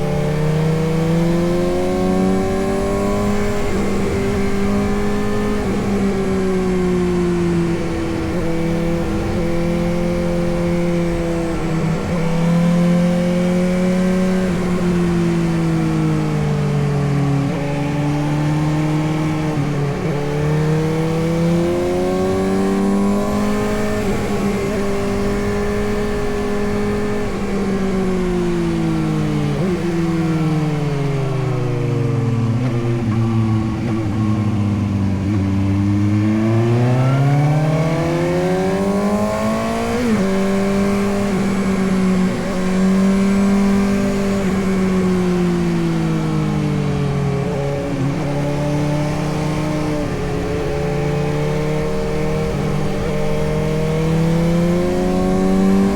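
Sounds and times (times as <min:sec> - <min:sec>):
motorcycle engine under way: 0:00.0 - 0:55.9.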